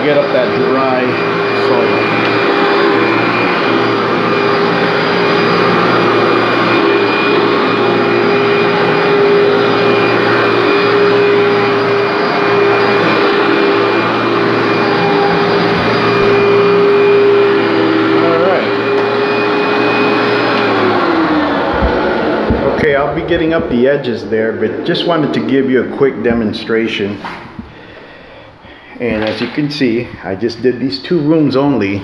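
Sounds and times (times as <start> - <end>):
upright vacuum cleaner running: 0.0 - 32.0.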